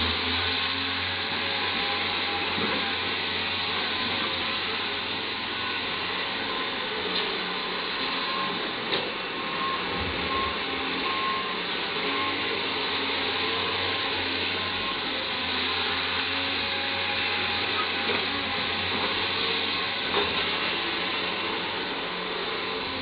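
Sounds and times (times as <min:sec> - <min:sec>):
excavator running: 0:00.0 - 0:23.0.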